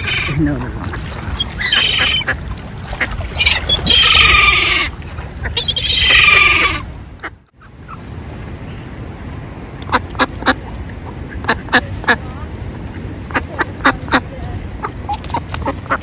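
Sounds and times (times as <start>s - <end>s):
water birds honking: 0.0s - 8.0s, 9.8s - 16.0s
low rumble of wind and water: 0.0s - 16.0s.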